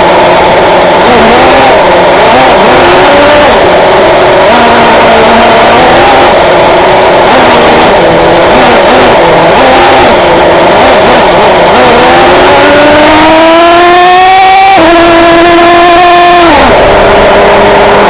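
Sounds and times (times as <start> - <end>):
nitro engine revving: 0.0 - 18.0.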